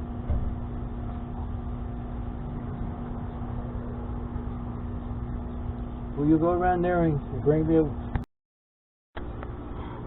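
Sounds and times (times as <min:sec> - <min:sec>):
machine hum: 0:00.0 - 0:08.3.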